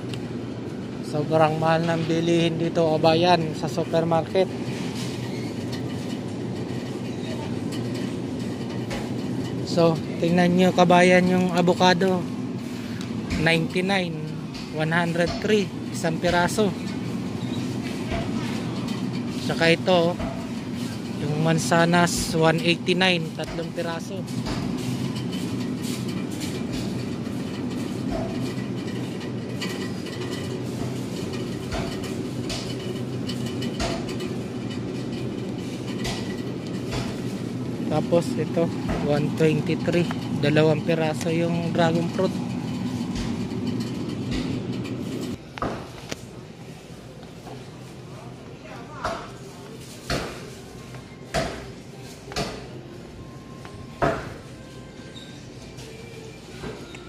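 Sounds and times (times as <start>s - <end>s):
supermarket background hum: 0.0s - 57.0s.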